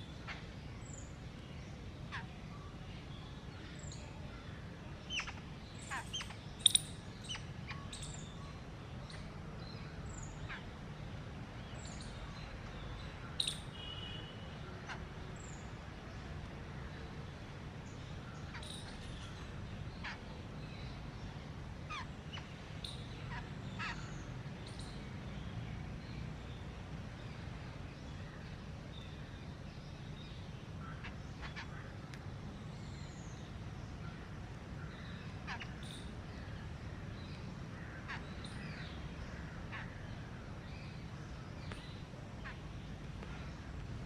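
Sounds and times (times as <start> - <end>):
bird calls and chirps: 0.0 - 10.9, 11.6 - 15.8, 17.9 - 34.2, 34.8 - 44.0.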